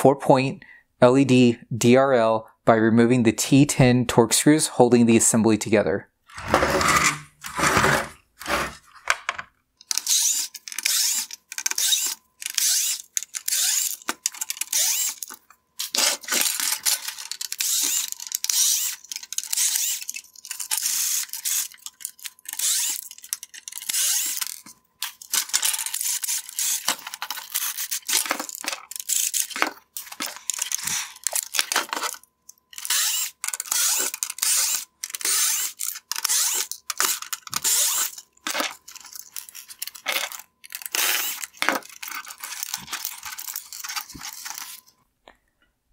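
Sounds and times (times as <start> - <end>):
screwdriver scraping and rattling: 6.3 - 44.9.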